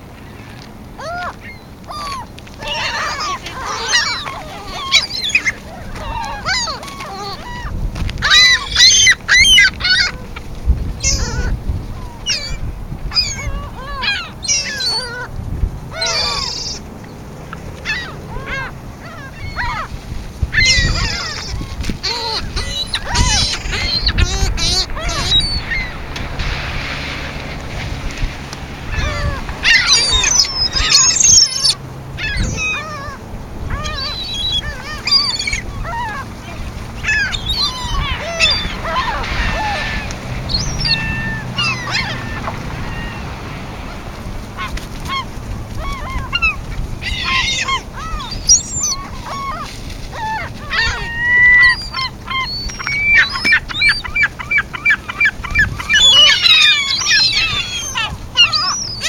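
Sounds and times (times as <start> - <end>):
flock of birds calling: 0.0 - 59.0.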